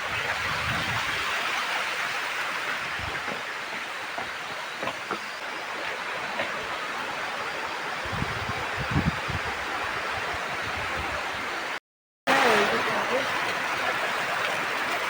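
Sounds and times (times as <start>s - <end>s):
fast-flowing river water: 0.0s - 8.0s, 9.6s - 15.0s.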